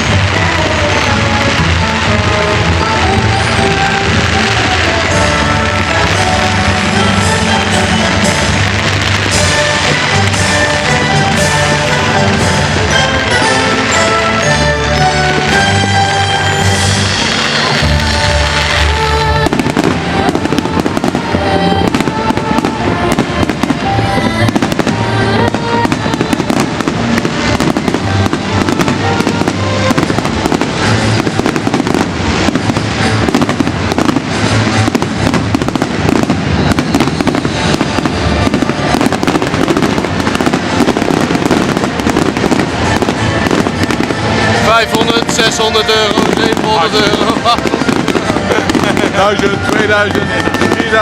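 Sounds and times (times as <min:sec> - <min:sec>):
fireworks crackling bangs: 0:00.0 - 0:51.0
music: 0:00.0 - 0:51.0.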